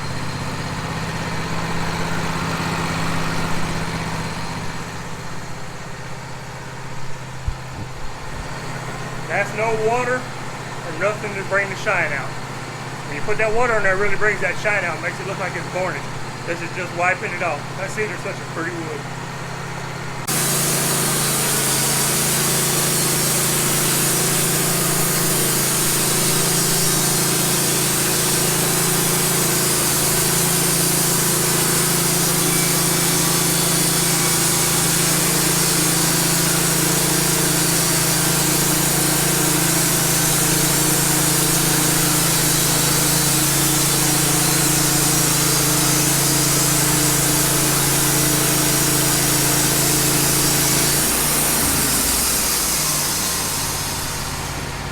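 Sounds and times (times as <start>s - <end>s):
bandsaw mill sawing log: 0.0s - 7.6s, 8.2s - 54.9s.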